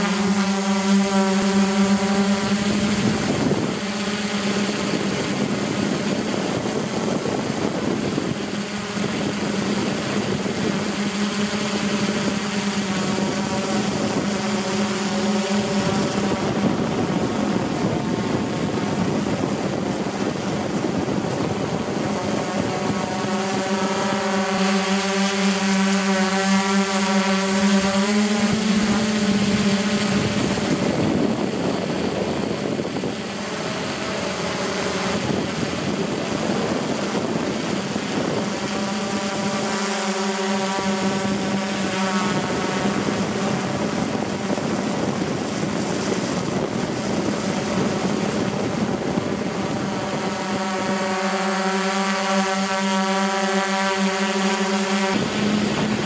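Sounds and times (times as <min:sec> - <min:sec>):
rushing wind noise: 0:00.0 - 0:51.9, 0:54.2 - 0:56.0
drone propellers whirring: 0:00.0 - 0:56.0.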